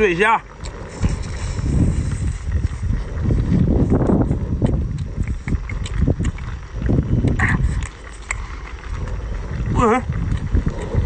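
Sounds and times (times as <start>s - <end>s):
man chewing: 0.5s - 11.0s.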